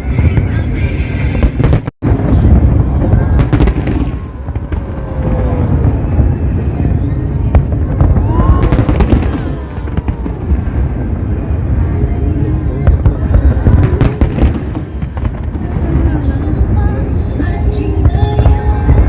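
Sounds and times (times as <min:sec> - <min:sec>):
fireworks booming: 0:00.0 - 0:19.0
fireworks crackling bursts: 0:00.0 - 0:19.0.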